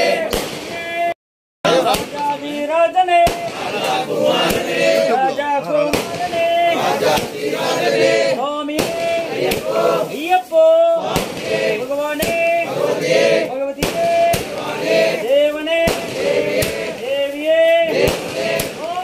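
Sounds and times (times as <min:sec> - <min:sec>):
group singing devotional song: 0:00.0 - 0:00.9, 0:01.7 - 0:19.0.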